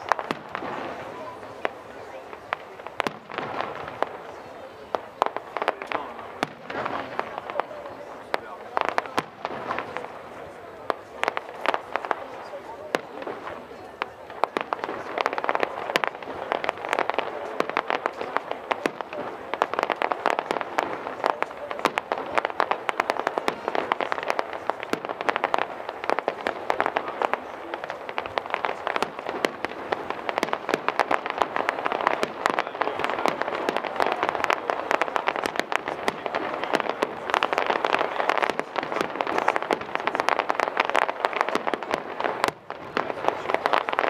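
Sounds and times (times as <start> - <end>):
fireworks crackling and popping: 0.0 - 44.0.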